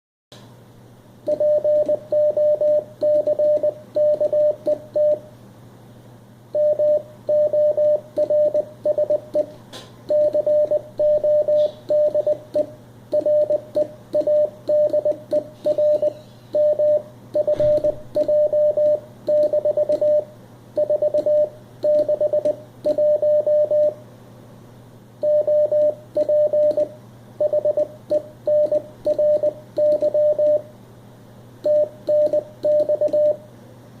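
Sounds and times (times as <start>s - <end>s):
low steady hum: 0.4s - 34.0s
morse code tone: 1.3s - 5.3s, 6.6s - 9.5s, 10.1s - 24.0s, 25.2s - 30.7s, 31.7s - 33.4s.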